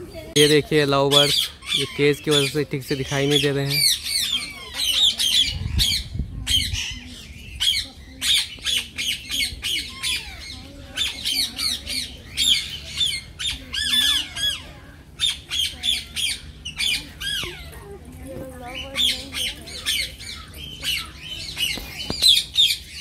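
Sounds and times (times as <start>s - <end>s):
parakeets squawking and chirping: 0.0s - 23.0s.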